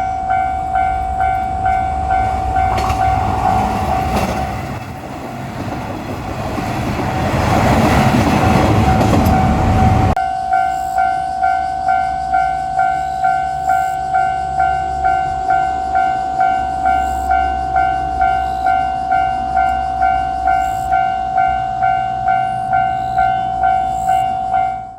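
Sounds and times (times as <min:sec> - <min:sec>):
diesel train rumbling over rails: 0:00.0 - 0:24.9
railroad crossing bell ringing: 0:00.0 - 0:24.9.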